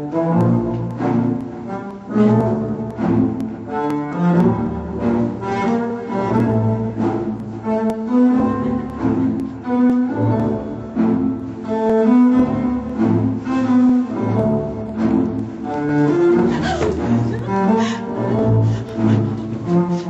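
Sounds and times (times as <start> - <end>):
bowed bass line: 0.0 - 20.0
cello melody: 0.0 - 20.0.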